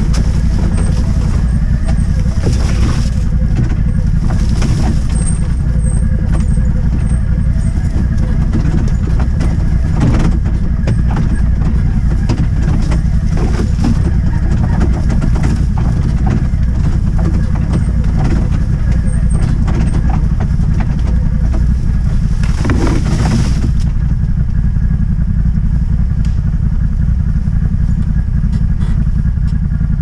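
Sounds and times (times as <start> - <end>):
knocks and rattles: 0.0 - 24.2
vehicle engine and wind rumble: 0.0 - 30.0.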